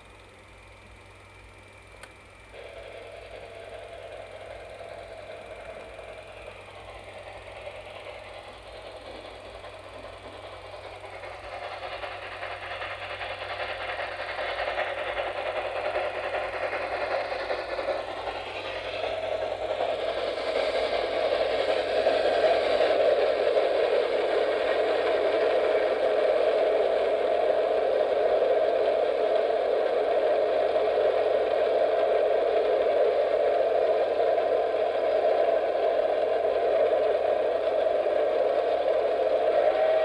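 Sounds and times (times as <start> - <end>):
film projector whirring rattle: 0.0 - 40.0.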